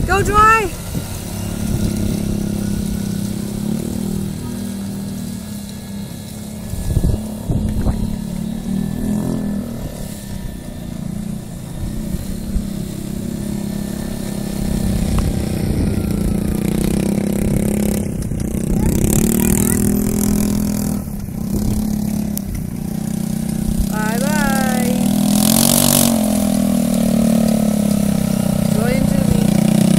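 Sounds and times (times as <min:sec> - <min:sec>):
quad bike engine running: 0:00.0 - 0:29.9
wind rumbling on microphone: 0:00.0 - 0:29.9.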